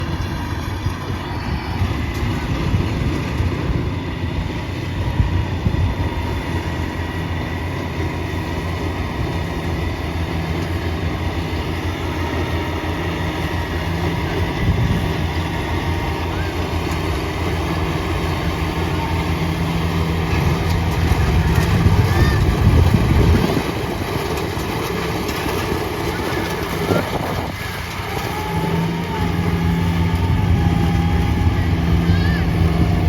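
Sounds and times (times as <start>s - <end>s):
combine harvester engine droning: 0.0s - 33.0s.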